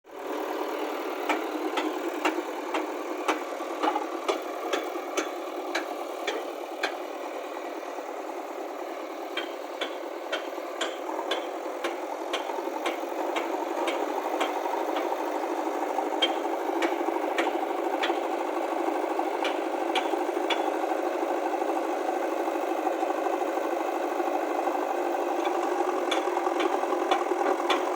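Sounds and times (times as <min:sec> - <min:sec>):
tractor engine running: 0:00.1 - 0:27.9.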